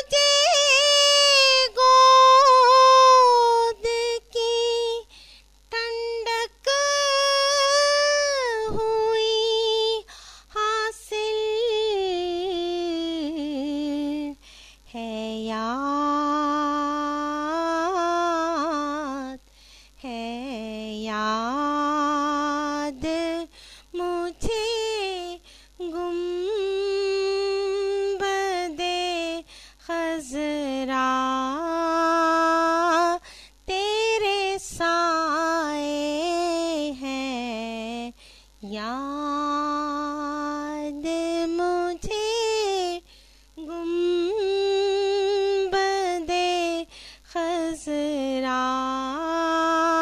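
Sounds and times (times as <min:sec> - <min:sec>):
woman singing unaccompanied: 0:00.0 - 0:50.0.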